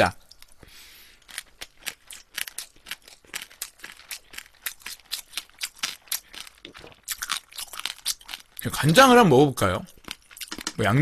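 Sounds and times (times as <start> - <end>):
crunchy chewing: 0.3 - 8.9, 9.7 - 10.8.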